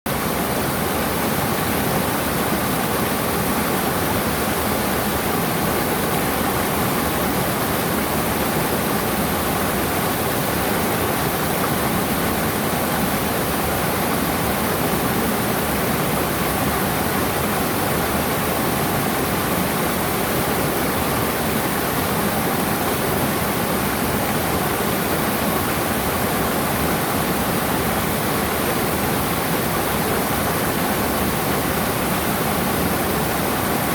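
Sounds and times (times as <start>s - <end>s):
running water: 0.1s - 33.9s.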